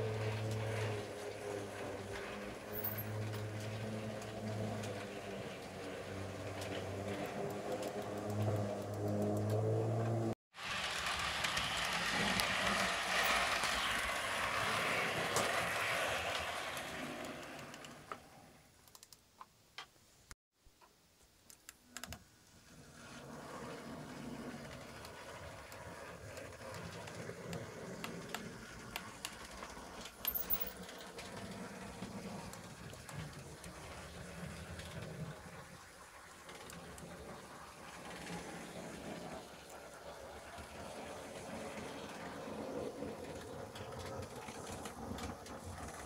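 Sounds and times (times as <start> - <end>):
model train whirring: 0.0 - 18.4, 22.4 - 46.0
wheels clicking over rail joints: 0.0 - 19.2, 22.0 - 46.0.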